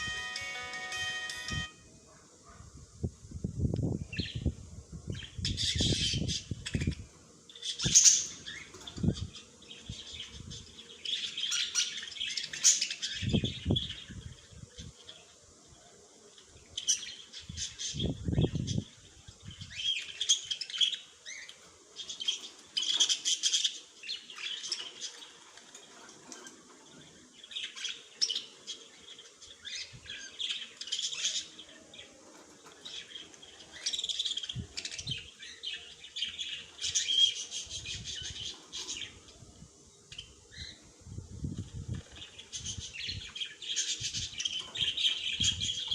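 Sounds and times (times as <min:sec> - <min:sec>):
small birds chirping: 0:03.6 - 0:45.9.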